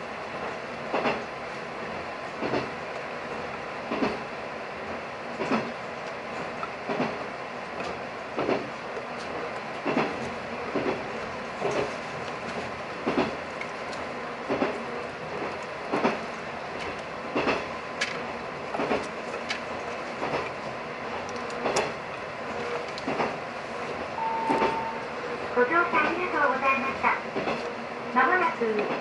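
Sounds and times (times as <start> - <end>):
railcar rumble: 0.0 - 29.0.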